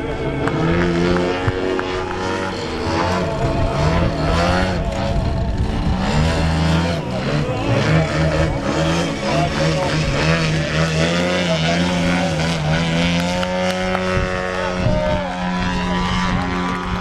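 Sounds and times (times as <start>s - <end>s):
model plane engine and propeller: 0.0s - 17.0s.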